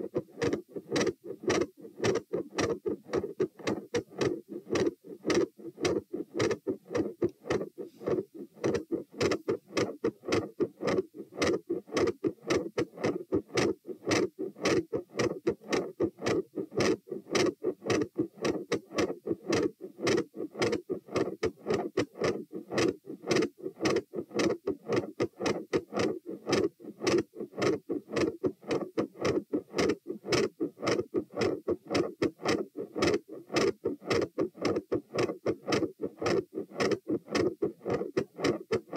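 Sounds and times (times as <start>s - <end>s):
heartbeat through stethoscope: 0.0s - 38.9s.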